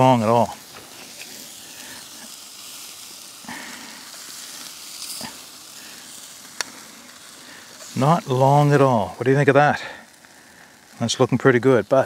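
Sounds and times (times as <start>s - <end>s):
sausages sizzling on grill: 0.0s - 12.0s.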